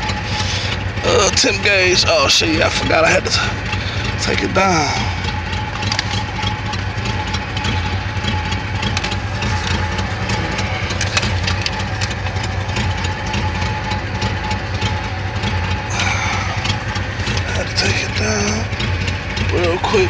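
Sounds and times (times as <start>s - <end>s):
car engine idling: 0.0s - 20.0s
light irregular engine ticks: 0.0s - 20.0s.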